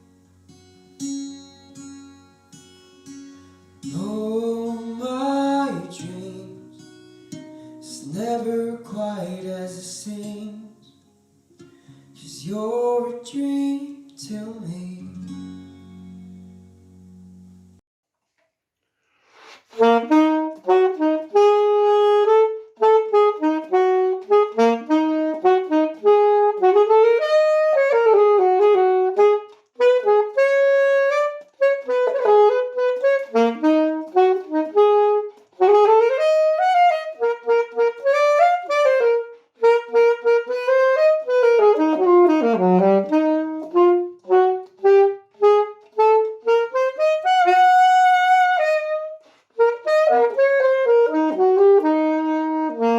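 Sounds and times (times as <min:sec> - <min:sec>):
saxophone melody: 0:00.0 - 0:17.8, 0:19.4 - 0:52.9.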